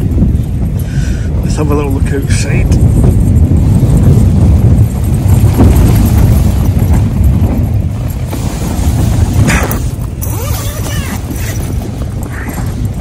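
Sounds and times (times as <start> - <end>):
wind buffeting a tent: 0.0 - 13.0.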